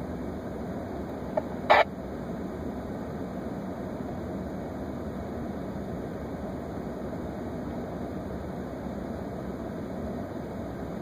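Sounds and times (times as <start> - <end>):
vehicle running noise: 0.0 - 11.0.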